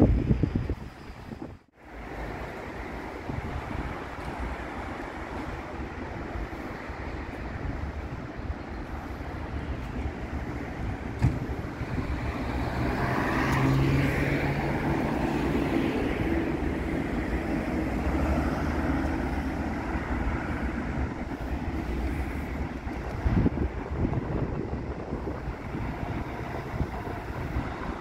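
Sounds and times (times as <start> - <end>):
road vehicles passing: 0.0 - 28.0
engine hum: 1.4 - 28.0.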